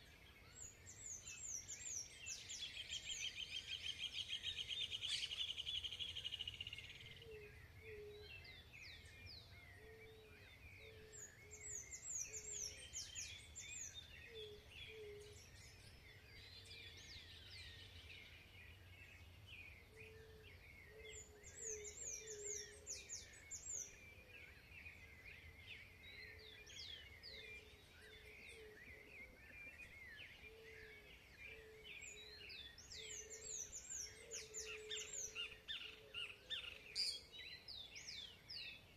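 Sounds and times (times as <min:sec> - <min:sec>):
faint birds singing and calling: 0:00.0 - 0:38.9.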